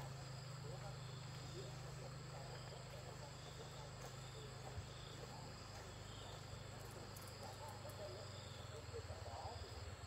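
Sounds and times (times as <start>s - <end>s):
crickets and insects chirring: 0.0s - 10.0s.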